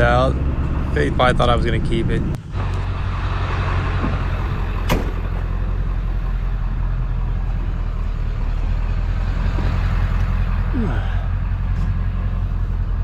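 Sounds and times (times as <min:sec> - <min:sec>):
road noise: 0:00.0 - 0:13.0
truck engine running: 0:00.0 - 0:13.0.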